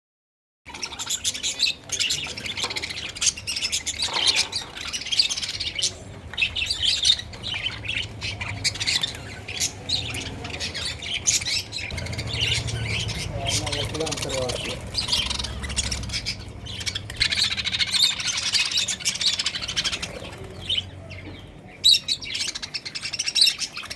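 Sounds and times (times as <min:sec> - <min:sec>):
small birds chirping and squawking: 0:00.7 - 0:23.9.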